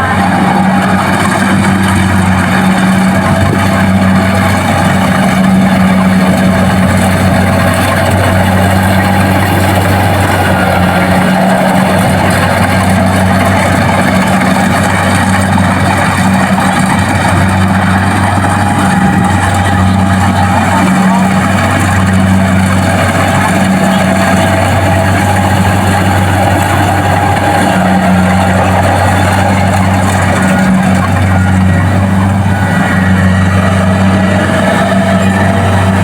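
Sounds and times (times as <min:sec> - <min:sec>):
combine harvester engine drone: 0:00.0 - 0:36.0.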